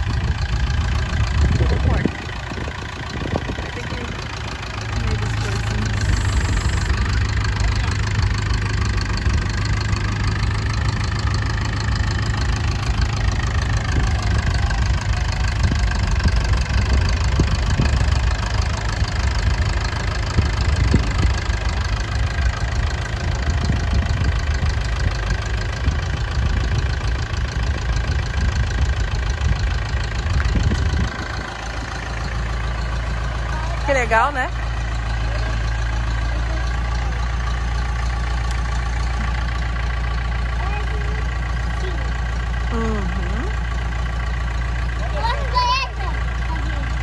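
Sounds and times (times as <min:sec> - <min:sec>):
tractor diesel engine rumbling: 0:00.0 - 0:47.0.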